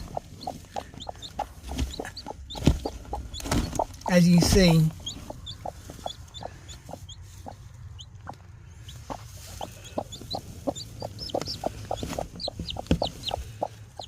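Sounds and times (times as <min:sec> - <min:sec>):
chick peeping: 0:00.0 - 0:14.0
hen clucking: 0:00.0 - 0:14.0.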